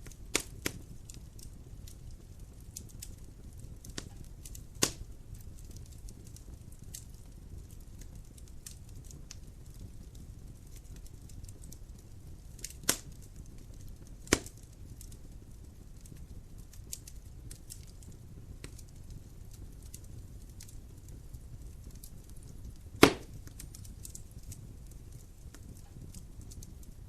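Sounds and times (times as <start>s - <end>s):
fire flames rumbling: 0.0s - 27.0s
loud fire pops: 0.0s - 27.0s
wood fire crackling: 0.0s - 27.0s.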